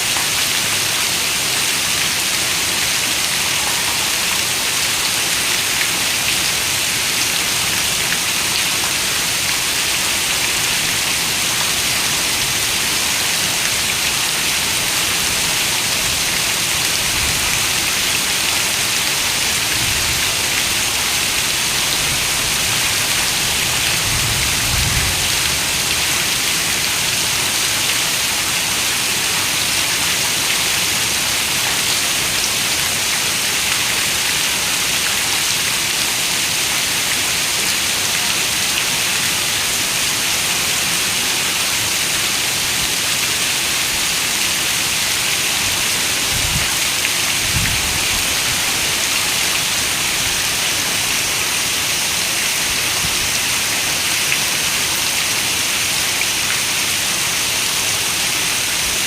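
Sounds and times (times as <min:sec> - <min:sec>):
heavy rain on a window: 0:00.1 - 0:59.0.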